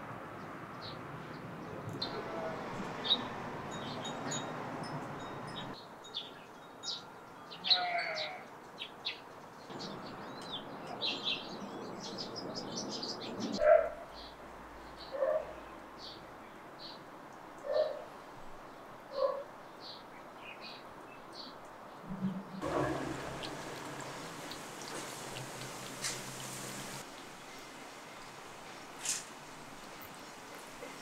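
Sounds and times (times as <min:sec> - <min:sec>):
small birds chirping: 0:00.7 - 0:29.2.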